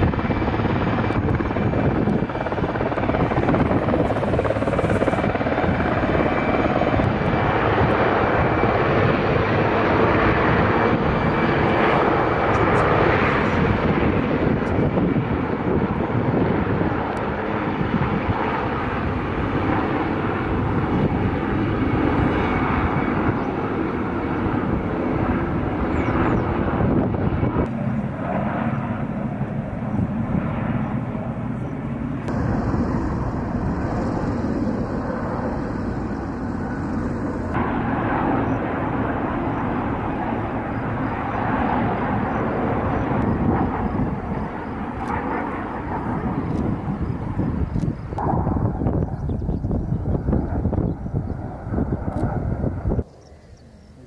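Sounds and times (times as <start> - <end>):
helicopters flying past: 0.0 - 54.0.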